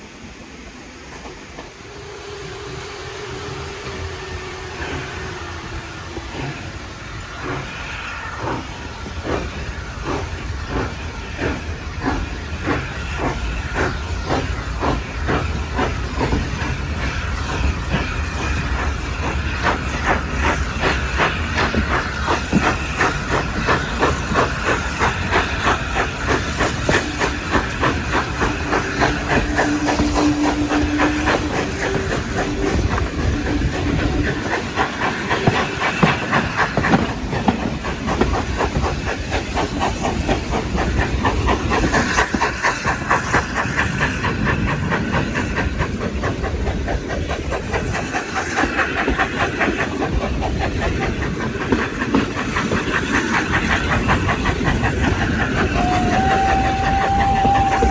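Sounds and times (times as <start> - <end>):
rushing air: 0.0 - 57.9
steam locomotive chuffing: 0.0 - 57.9.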